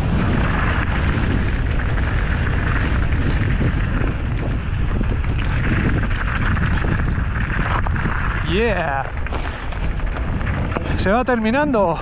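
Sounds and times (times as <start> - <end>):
bike knocks and rattles: 0.0 - 12.0
bike tyres rolling over gravel: 0.0 - 12.0
wind buffeting microphone: 0.0 - 12.0.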